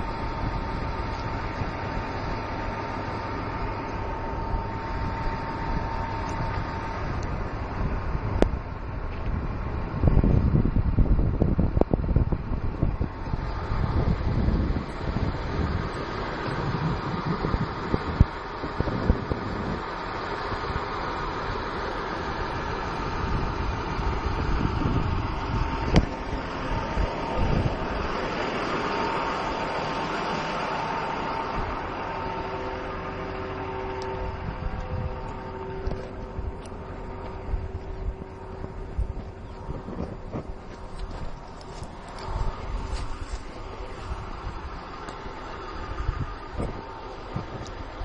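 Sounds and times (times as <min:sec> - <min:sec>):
diesel engine running: 0:00.0 - 0:48.0
wind gusting on microphone: 0:00.0 - 0:48.0.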